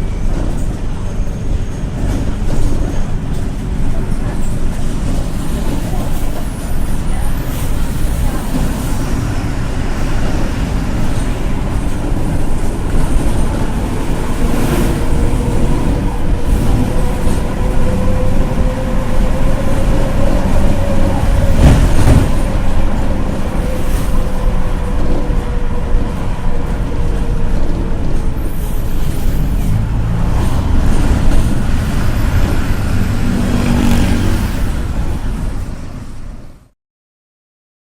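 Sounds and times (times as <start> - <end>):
road rumble: 0.0 - 36.7.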